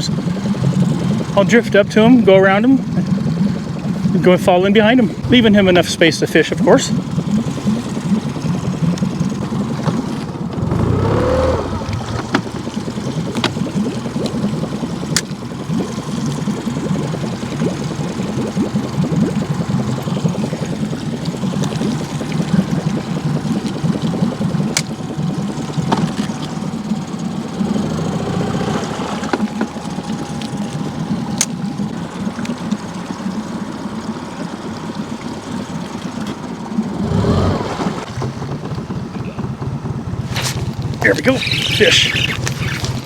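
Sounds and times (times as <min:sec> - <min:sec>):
outboard motor running: 0:00.0 - 0:43.0.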